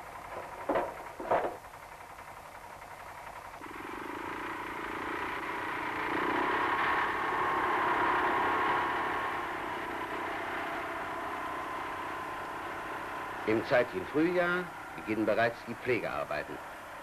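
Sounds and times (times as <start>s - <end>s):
two-stroke tractor engine running: 0.0s - 17.0s.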